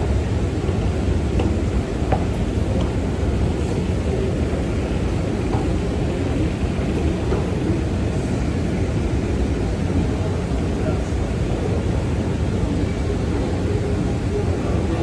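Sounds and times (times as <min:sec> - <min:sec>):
escalator rumbling: 0:00.0 - 0:12.6.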